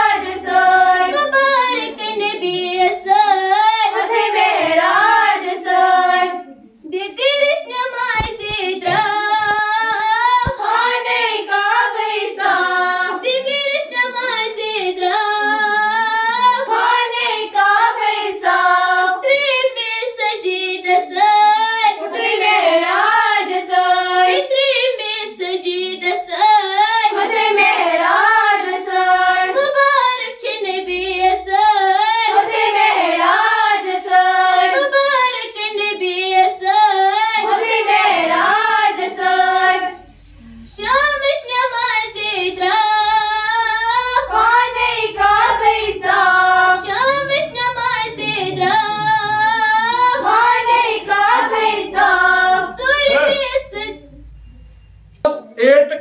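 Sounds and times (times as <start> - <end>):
girls singing together: 0.0 - 54.4.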